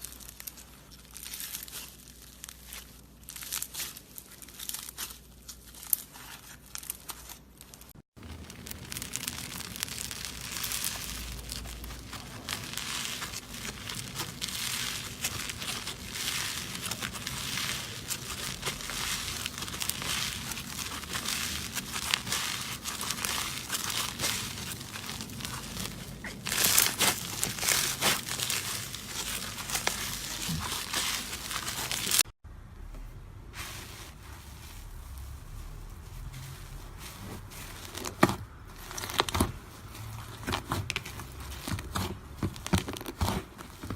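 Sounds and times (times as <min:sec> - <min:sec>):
slime squeezed crackling: 0:00.0 - 0:32.3, 0:37.1 - 0:43.9.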